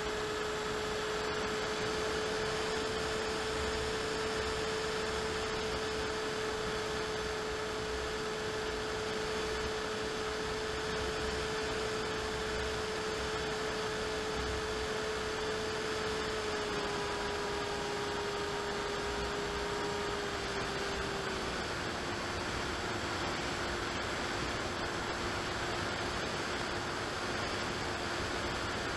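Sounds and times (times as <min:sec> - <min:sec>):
electric motor and propeller hum: 0:00.0 - 0:28.9.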